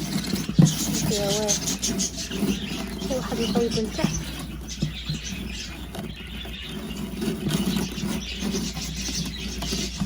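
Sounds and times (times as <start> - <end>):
cage birds chirping: 0.0 - 10.0.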